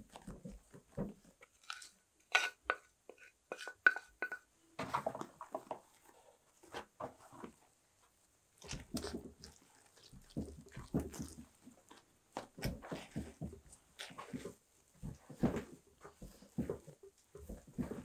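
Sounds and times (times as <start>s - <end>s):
hands squishing bread dough: 0.0s - 4.4s, 5.4s - 18.0s.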